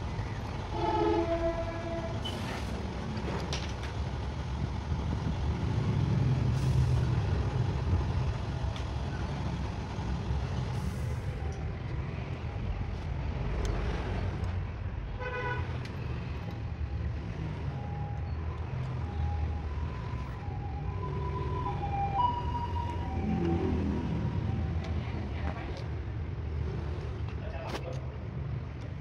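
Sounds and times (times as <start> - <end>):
road traffic rumbling: 0.0 - 29.0.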